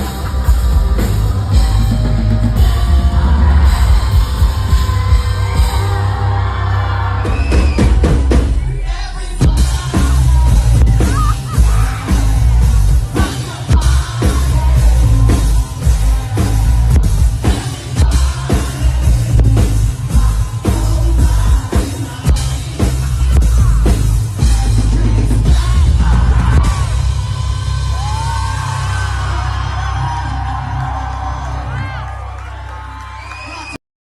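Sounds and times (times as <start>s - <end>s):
person singing: 0.0s - 7.6s, 8.6s - 31.0s
loud live rock music: 0.0s - 33.6s.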